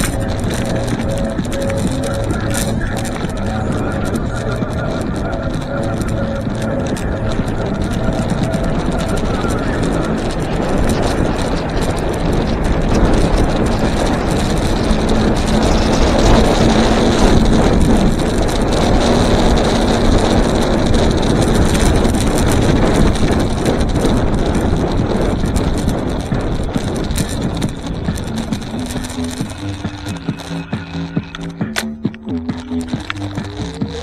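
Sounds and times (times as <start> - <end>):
tyres rumbling on asphalt: 0.0 - 34.0
wind rushing over microphone: 0.0 - 34.0.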